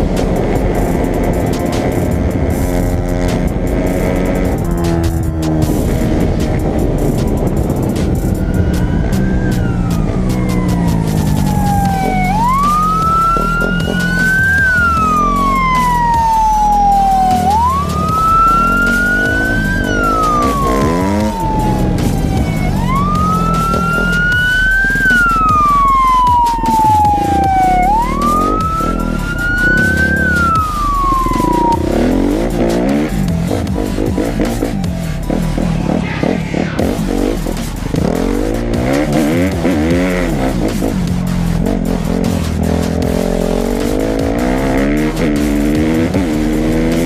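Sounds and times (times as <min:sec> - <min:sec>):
motorcycle engine running: 0:00.0 - 0:47.0
police siren wailing: 0:00.0 - 0:47.0.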